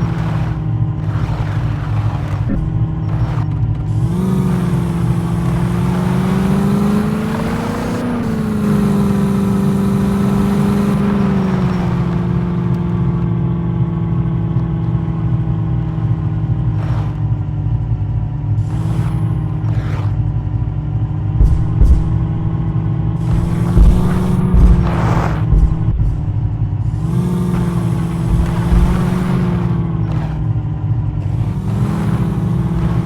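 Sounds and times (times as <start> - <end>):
jeep engine running under load: 0.0 - 33.0.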